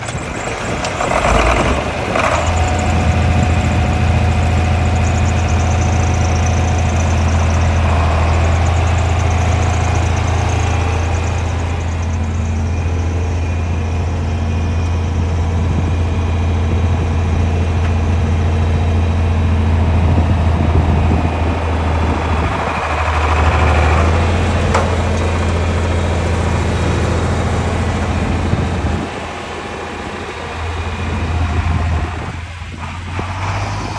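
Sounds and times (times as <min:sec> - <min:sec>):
diesel tractor engine idling: 0:00.0 - 0:33.9.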